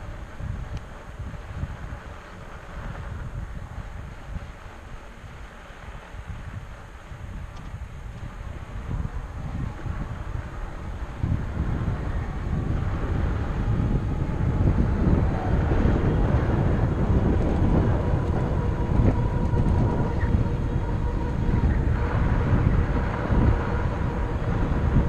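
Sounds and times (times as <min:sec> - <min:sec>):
faint steady whine: 0:00.0 - 0:25.0
wind buffeting microphone: 0:00.0 - 0:25.0.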